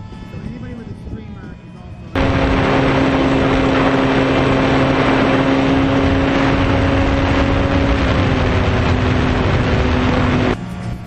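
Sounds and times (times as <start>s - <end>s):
rush of wind noise: 0.0s - 10.6s
electric motor and propeller drone: 0.0s - 11.0s.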